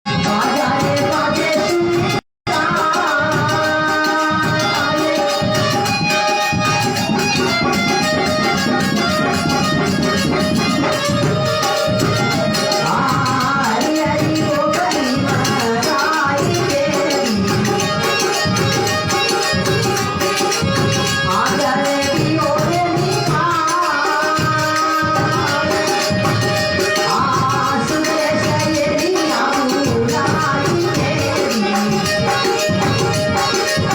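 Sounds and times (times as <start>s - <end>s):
dholak drum rhythm: 0.1s - 33.9s
jingling hand cymbals: 2.8s - 33.9s.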